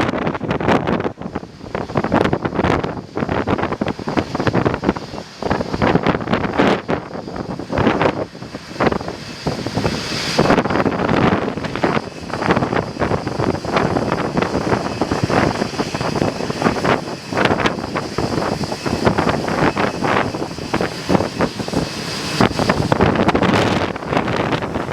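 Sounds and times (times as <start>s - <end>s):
gusty wind buffeting microphone: 0.0s - 24.9s.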